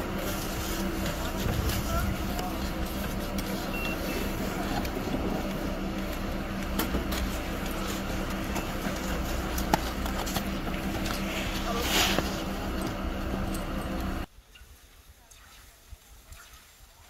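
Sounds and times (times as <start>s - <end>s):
machinery low hum: 0.0s - 14.3s.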